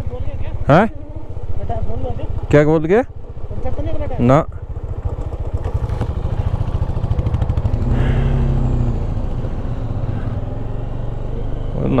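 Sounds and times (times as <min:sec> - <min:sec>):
motorcycle engine on gravel track: 0:00.0 - 0:12.0
steady engine tone: 0:00.0 - 0:12.0.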